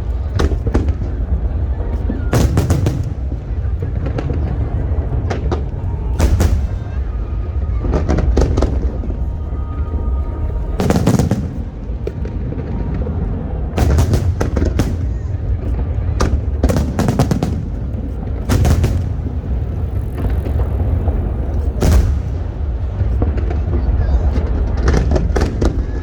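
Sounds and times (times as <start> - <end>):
continuous low rumble: 0.0 - 26.0
fireworks bursting with sharp bangs: 0.0 - 26.0.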